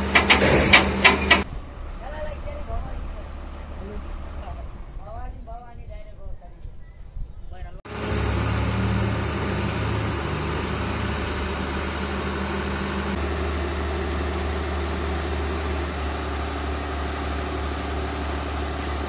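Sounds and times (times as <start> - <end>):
excavator diesel engine running: 0.0 - 4.8, 7.9 - 19.0.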